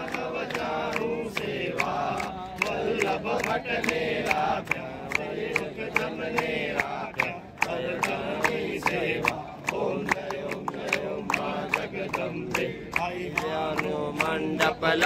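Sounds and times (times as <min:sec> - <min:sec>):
crowd singing devotional song: 0:00.0 - 0:15.0
rhythmic hand-clapping: 0:00.0 - 0:15.0.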